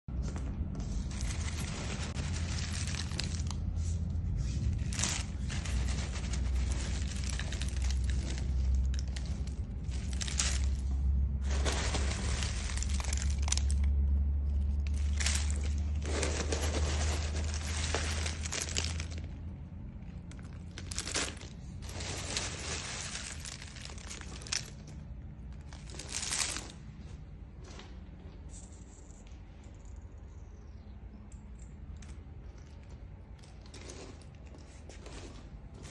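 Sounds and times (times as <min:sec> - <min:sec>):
wood chips rustling and crunching: 0:00.1 - 0:29.3, 0:32.5 - 0:35.9.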